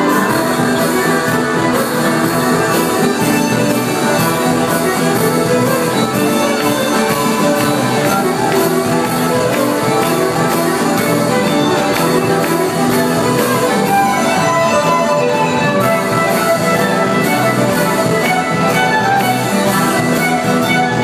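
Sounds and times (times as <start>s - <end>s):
acoustic guitars: 0.0s - 21.0s
drum kit beat: 0.0s - 21.0s
fiddle: 0.0s - 21.0s.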